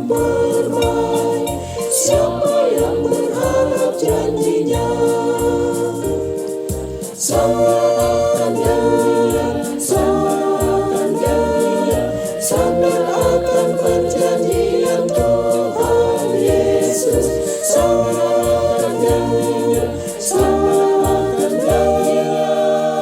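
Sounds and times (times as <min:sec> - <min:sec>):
choir singing a hymn: 0:00.0 - 0:23.0
low accompanying notes: 0:00.0 - 0:23.0.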